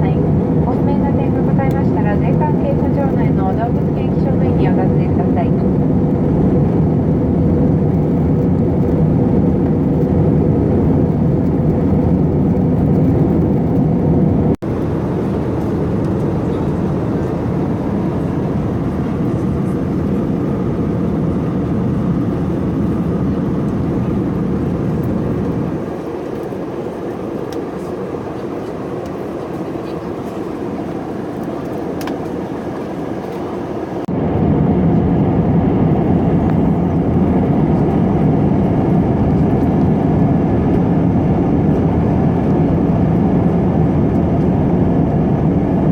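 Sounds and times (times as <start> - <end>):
airliner cabin engine noise: 0.0 - 45.9.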